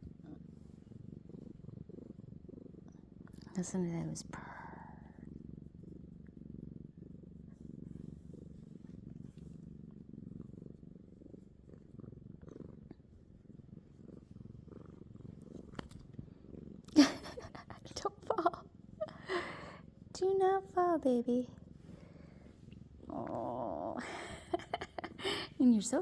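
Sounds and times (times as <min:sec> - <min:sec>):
kitten purring: 0:00.0 - 0:26.0.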